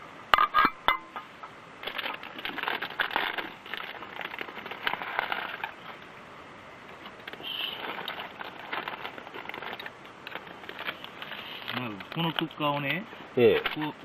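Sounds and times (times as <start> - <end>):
crackling and scraping: 0.4 - 6.1, 6.8 - 14.0.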